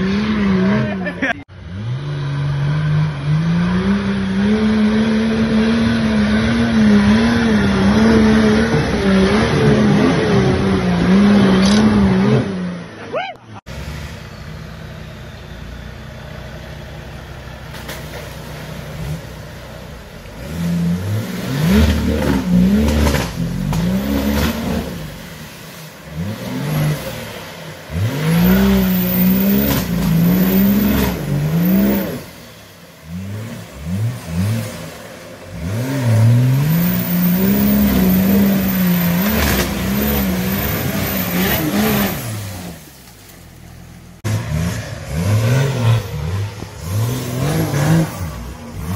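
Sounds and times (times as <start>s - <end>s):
diesel engine revving under load: 0.0s - 48.9s.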